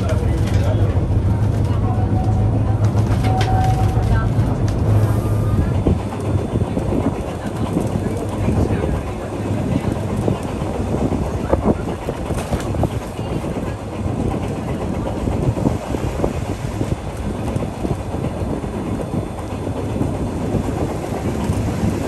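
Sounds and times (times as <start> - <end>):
tram rumbling on street track: 0.0 - 22.0.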